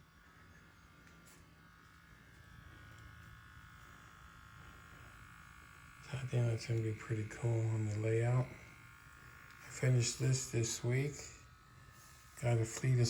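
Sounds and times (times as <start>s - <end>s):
small electric motors buzzing: 0.0s - 13.0s.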